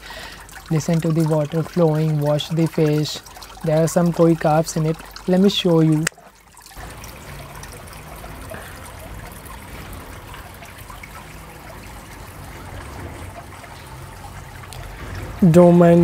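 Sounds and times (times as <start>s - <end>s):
water trickling into a pond: 0.0s - 16.0s.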